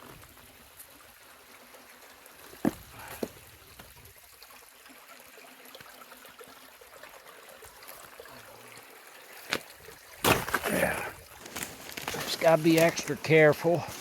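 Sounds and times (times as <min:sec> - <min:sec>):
faint stream running water: 0:00.0 - 0:14.0.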